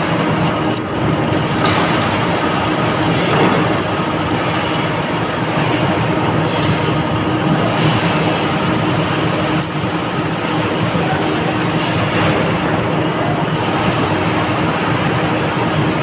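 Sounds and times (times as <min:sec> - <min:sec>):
faint constant hum: 0:00.0 - 0:16.0
loud mechanical running noise: 0:00.0 - 0:16.0.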